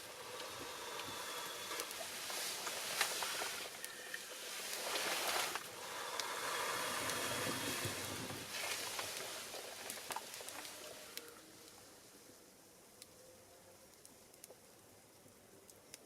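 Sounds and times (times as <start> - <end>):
fire hissing and crackling: 0.0 - 13.2.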